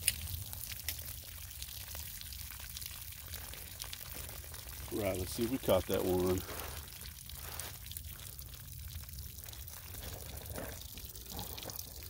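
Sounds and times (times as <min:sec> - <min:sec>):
drip ticks: 0:00.0 - 0:12.0
water trickling onto dirt: 0:00.0 - 0:12.0.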